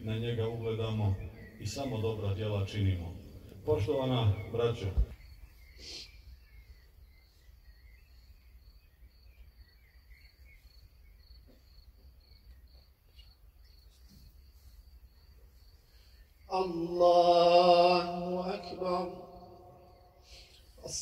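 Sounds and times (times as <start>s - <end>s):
faint high chirping: 0.0s - 21.0s.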